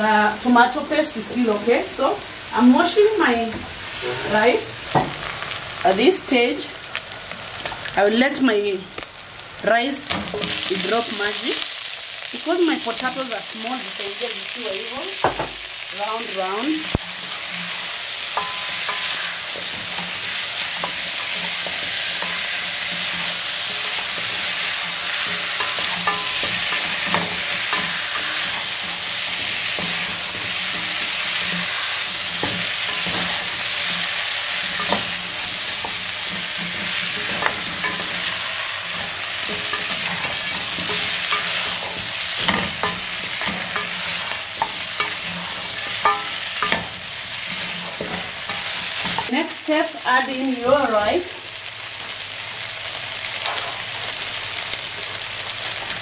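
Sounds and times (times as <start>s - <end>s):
food sizzling in a pot: 0.0s - 56.0s.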